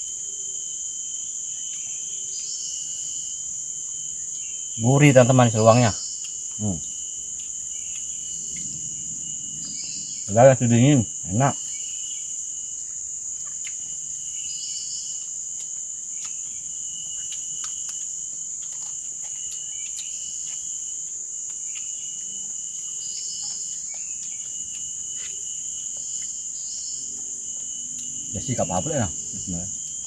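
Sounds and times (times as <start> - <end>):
insect chirps and clicks: 0.0 - 30.0
insect chorus drone: 0.0 - 30.0.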